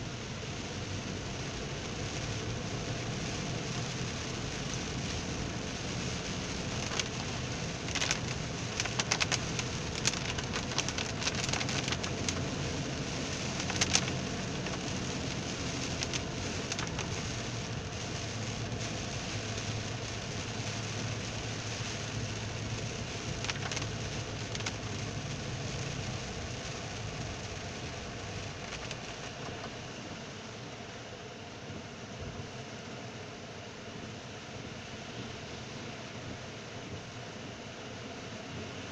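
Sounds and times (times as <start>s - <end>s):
heavy rain drumming on car roof: 0.0s - 33.2s.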